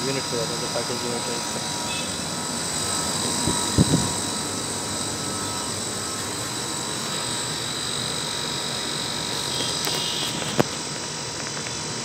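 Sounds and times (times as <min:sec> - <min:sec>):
heat pump mechanical drone: 0:00.0 - 0:12.0.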